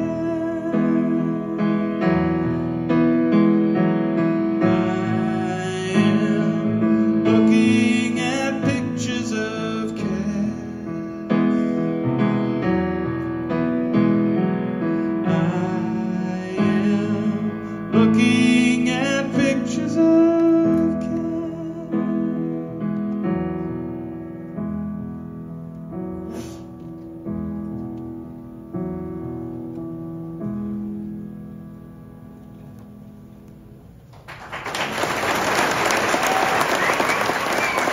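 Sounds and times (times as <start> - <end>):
piano chords ringing: 0.0 - 34.2.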